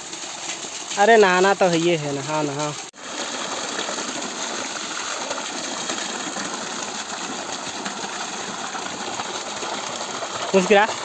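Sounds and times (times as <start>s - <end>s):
water gushing into plastic tubs: 0.0s - 11.0s.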